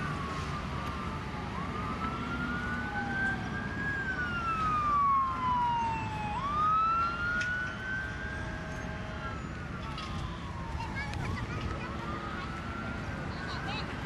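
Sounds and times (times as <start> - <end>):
emergency sirens wailing: 0.0 - 14.0.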